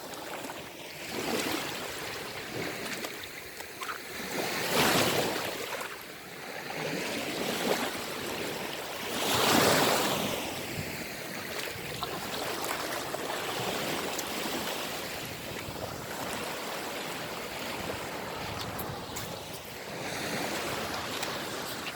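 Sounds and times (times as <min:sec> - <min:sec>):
sea waves washing onto shore: 0:00.0 - 0:21.9.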